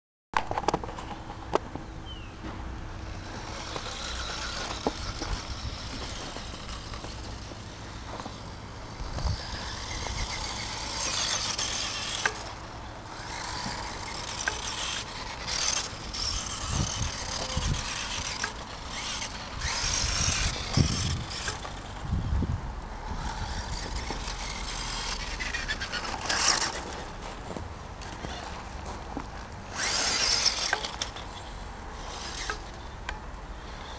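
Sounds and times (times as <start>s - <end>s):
toy car motor and gears whining: 2.9s - 33.9s.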